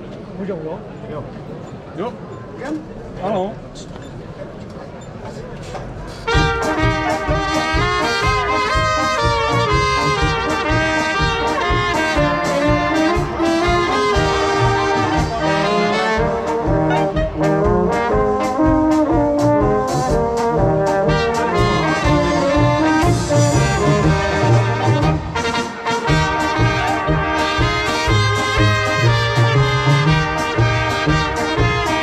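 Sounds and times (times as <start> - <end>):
brass band playing: 6.1 - 32.0.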